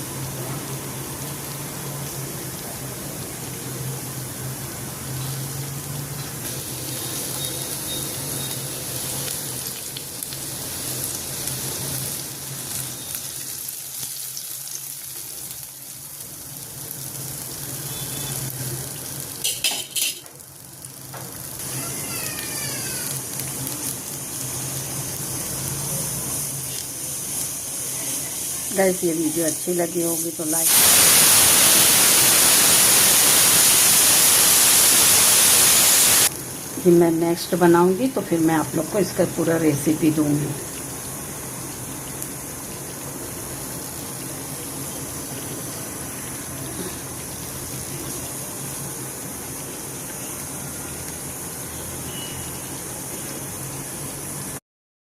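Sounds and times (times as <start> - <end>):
meat sizzling in hot oil: 0.0 - 54.6.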